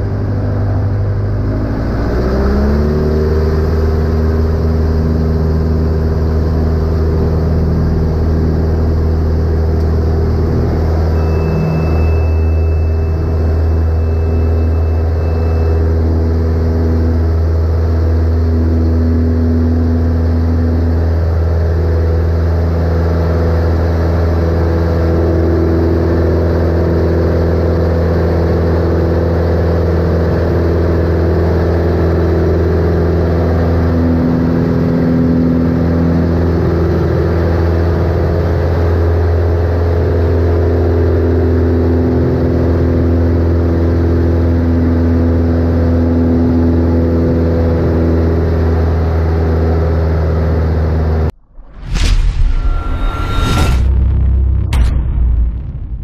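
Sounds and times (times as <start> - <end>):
light aircraft engine drone: 0.0 - 51.4.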